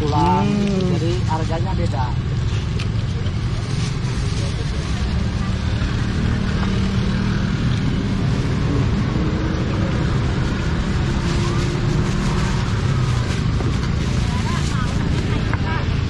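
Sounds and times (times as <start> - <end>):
street traffic engines rumbling: 0.0 - 16.0.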